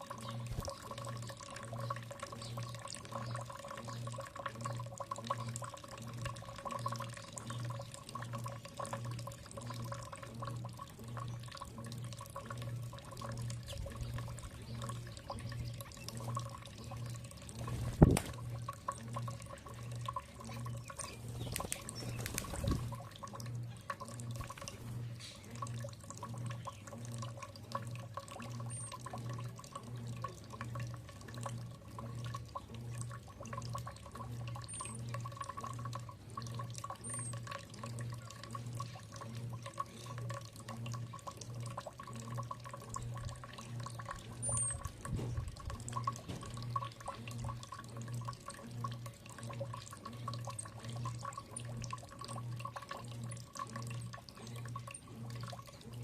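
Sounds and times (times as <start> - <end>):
water dripping and trickling: 0.0 - 56.0.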